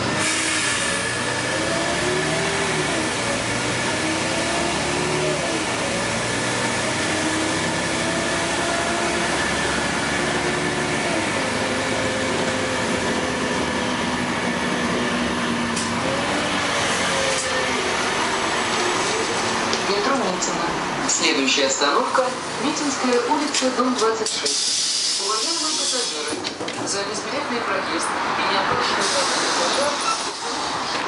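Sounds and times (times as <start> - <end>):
bus engine and transmission whine: 0.0 - 31.0
road noise: 0.0 - 31.0.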